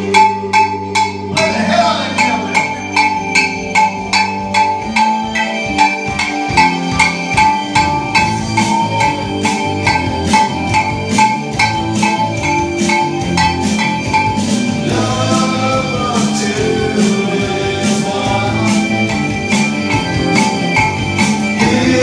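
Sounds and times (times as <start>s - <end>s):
metallic percussion hits: 0.0s - 22.0s
music: 0.0s - 22.0s
wavering melody: 0.0s - 22.0s.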